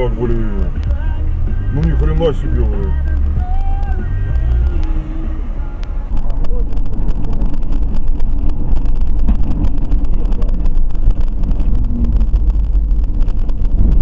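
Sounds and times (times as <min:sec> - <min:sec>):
car road and wind rumble: 0:00.0 - 0:14.0.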